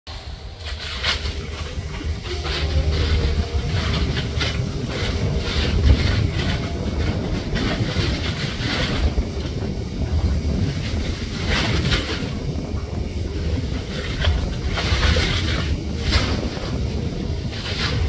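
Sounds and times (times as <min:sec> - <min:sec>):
ship engine rumble: 0:00.1 - 0:18.0
wind buffeting microphone: 0:00.1 - 0:18.0.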